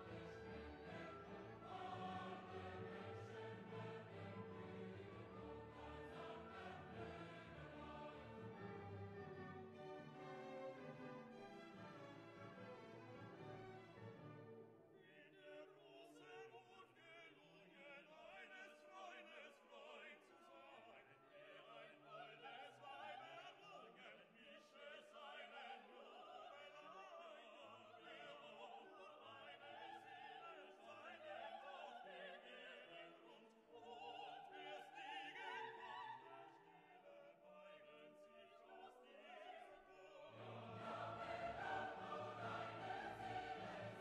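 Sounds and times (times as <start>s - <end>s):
operatic singing with orchestra: 0.0s - 44.0s.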